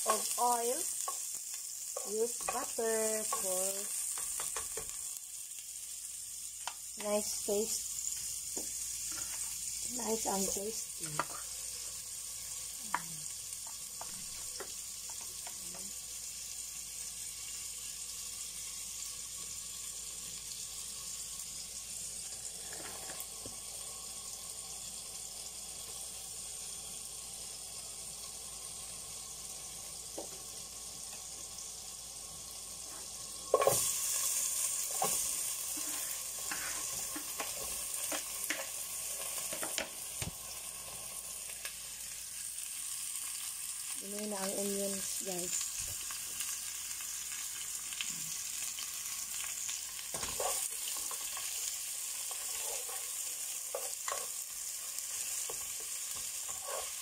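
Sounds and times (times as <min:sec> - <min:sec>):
butter sizzling in a pot: 0:00.0 - 0:57.0.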